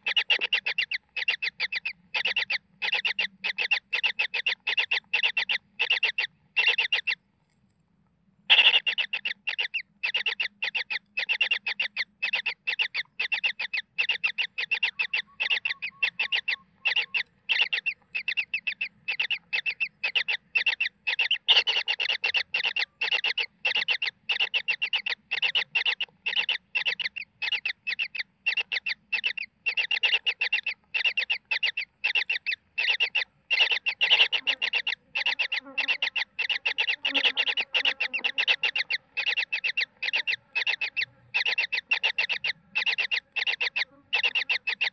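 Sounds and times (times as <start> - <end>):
nestlings' harsh begging calls: 0.0 - 7.2, 8.5 - 44.9.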